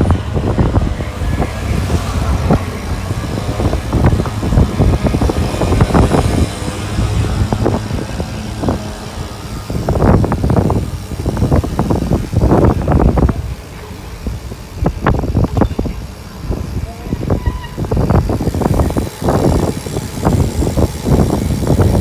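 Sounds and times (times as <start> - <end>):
passing motor traffic: 0.0 - 22.0
wind rumble on microphone: 0.0 - 22.0.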